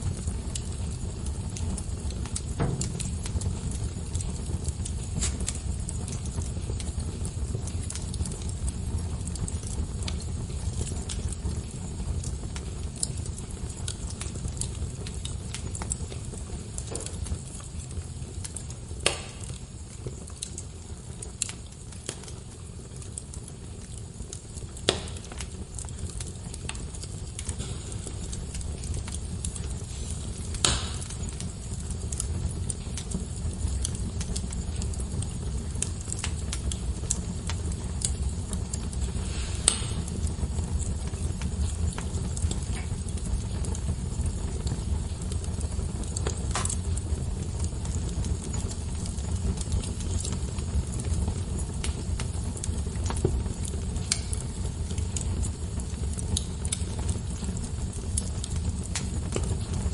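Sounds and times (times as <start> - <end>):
fire crackling in a fireplace: 0.0 - 59.9
sharp pops of fire: 0.0 - 59.9.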